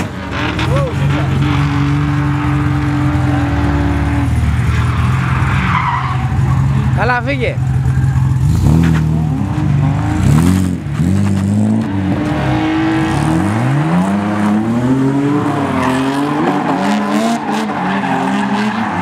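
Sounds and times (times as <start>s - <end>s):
car engines revving hard: 0.0s - 19.0s.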